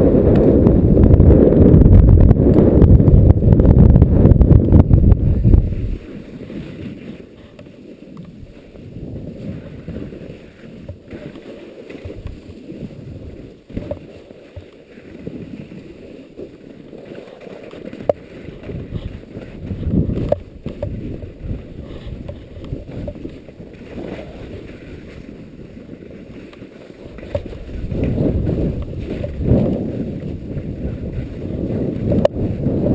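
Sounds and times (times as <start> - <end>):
wind buffeting microphone: 0.0 - 11.4, 15.1 - 32.9.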